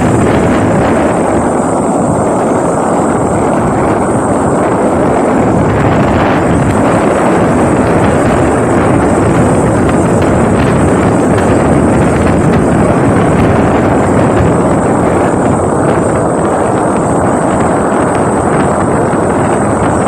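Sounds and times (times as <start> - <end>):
hull rushing through water: 0.0 - 20.0
motorboat engine: 0.0 - 20.0
wind buffeting microphone: 0.0 - 20.0.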